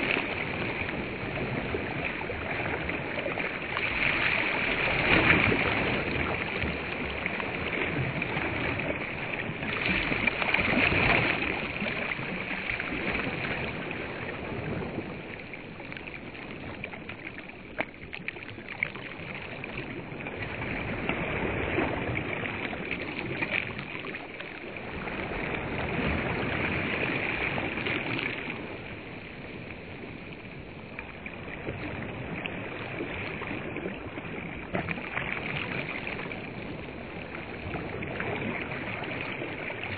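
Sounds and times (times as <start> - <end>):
small waves lapping on shore: 0.0 - 39.9.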